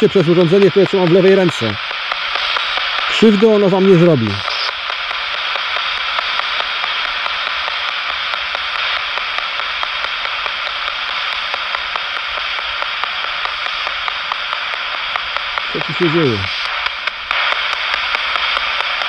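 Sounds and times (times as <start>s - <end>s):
faint radio clicks: 0.0s - 19.0s
radio static hiss: 0.0s - 19.0s.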